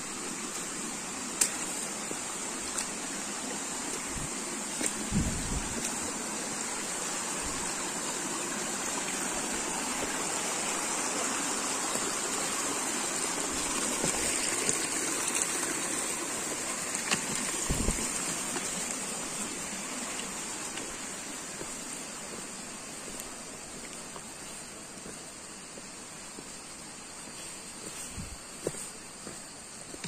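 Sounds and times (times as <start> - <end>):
steady high hiss: 0.0 - 30.0
stream rushing over rocks: 0.0 - 30.0.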